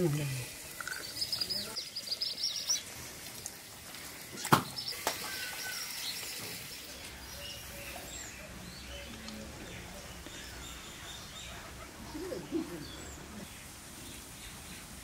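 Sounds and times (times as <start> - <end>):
small birds chirping: 0.0 - 3.2, 3.9 - 15.0.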